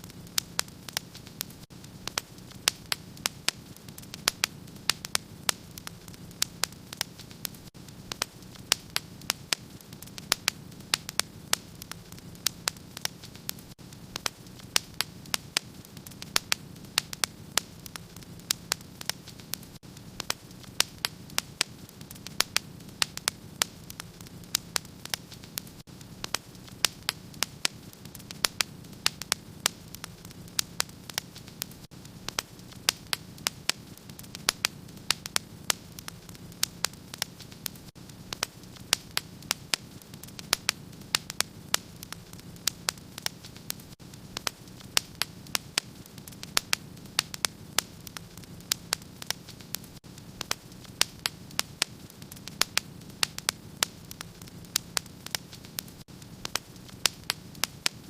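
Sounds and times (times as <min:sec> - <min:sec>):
fire crackling in a fireplace: 0:00.0 - 0:58.0
soft steady hiss: 0:00.0 - 0:58.0.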